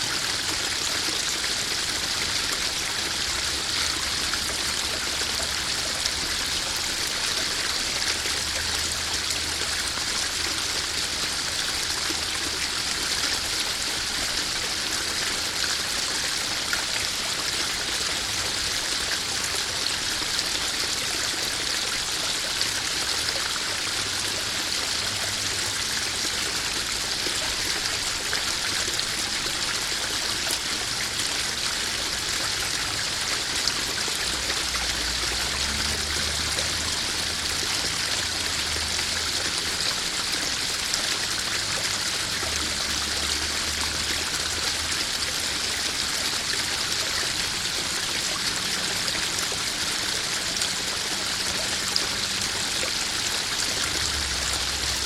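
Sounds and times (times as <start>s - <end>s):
waterfall splashing into pond: 0.0s - 55.0s.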